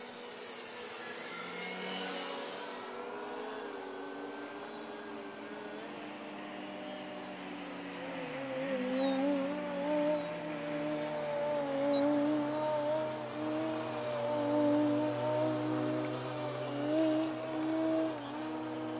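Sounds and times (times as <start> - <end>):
model plane motor whine: 0.0 - 18.9.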